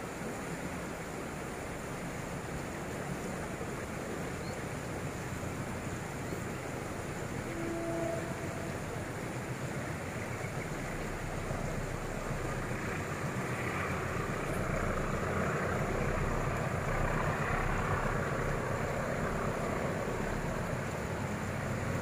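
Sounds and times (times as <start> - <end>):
distant locomotive engine rumble: 0.0 - 22.0.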